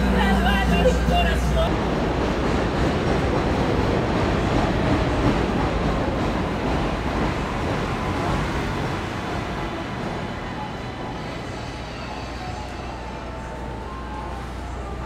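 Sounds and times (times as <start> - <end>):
elevated train rumbling: 0.0 - 15.0.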